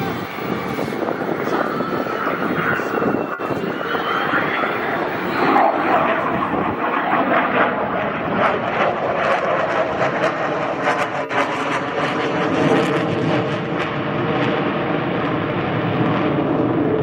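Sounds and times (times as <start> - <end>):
loud jet engine noise: 0.0 - 17.0.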